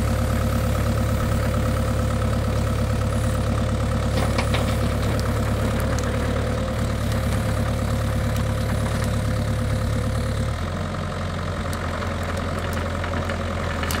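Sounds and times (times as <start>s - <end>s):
mini excavator diesel engine running: 0.0s - 14.0s.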